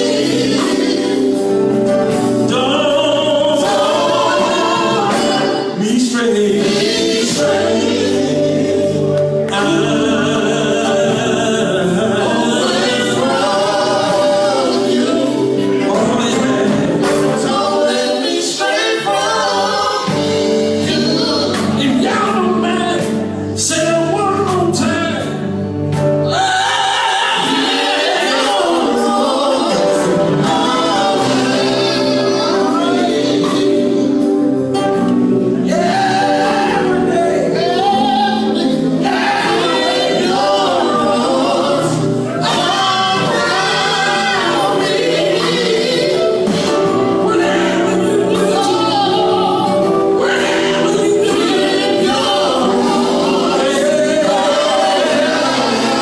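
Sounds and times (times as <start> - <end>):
gospel vocal group singing: 0.0 - 56.0.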